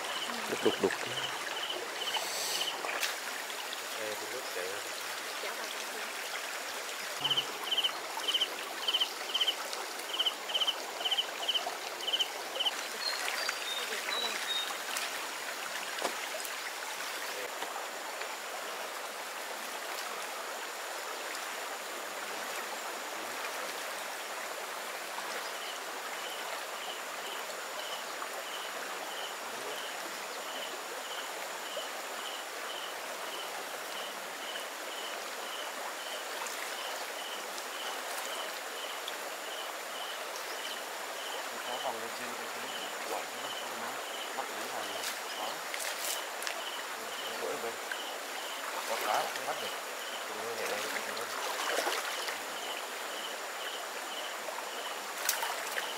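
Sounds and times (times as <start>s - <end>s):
shallow stream running: 0.0s - 55.9s.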